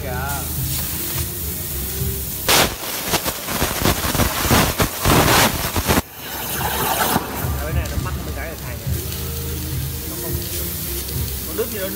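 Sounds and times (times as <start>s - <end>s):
plasma cutting torch hissing: 0.0s - 11.9s.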